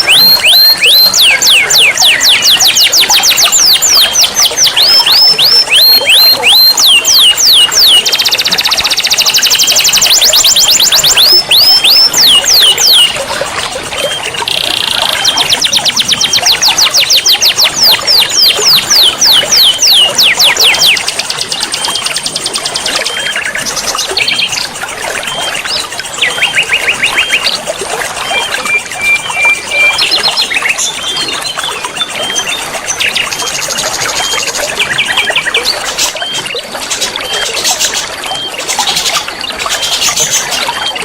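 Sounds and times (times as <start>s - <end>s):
songbirds trilling and chirping: 0.0s - 41.0s
waterfall and flowing water: 0.0s - 41.0s.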